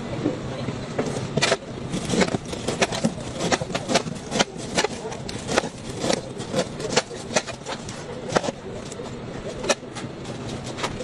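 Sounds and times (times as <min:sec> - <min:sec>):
low background noise: 0:00.0 - 0:11.0
knife slicing pineapple rind: 0:01.0 - 0:11.0.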